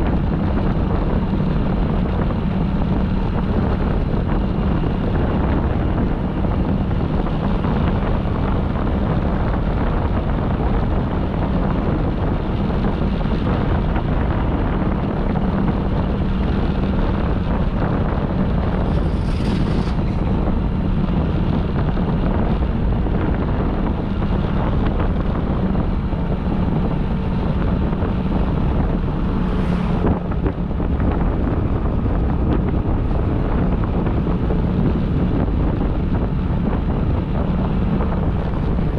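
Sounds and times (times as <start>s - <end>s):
motorbike engine drone: 0.0s - 38.9s
wind buffeting microphone: 0.0s - 38.9s.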